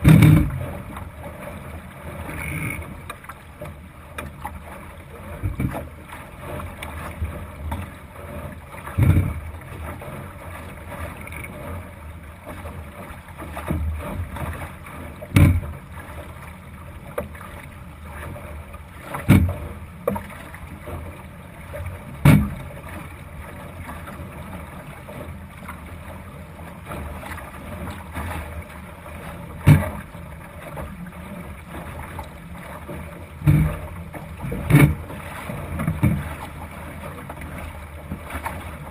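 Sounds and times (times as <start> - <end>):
hull slapping into waves: 0.0 - 38.9
water and wind rushing: 0.0 - 38.9.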